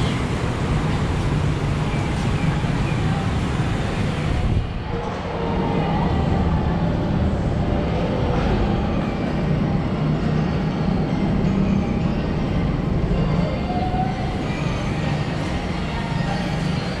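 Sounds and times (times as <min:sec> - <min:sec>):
station concourse hum and rumble: 0:00.0 - 0:17.0.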